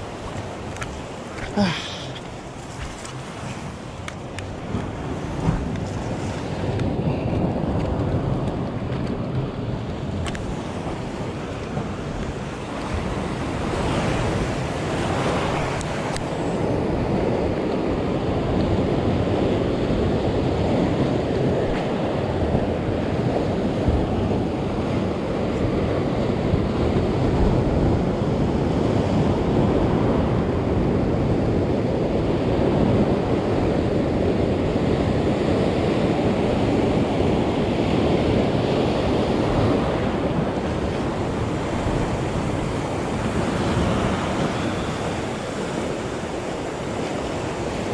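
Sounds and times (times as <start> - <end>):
surf washing on shore: 0.0 - 47.9
wind on microphone: 0.0 - 47.9.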